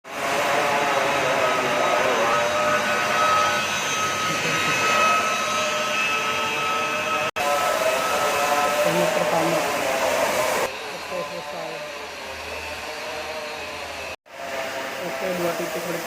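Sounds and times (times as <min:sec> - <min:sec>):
electric blower motor whirring: 0:00.1 - 0:16.0.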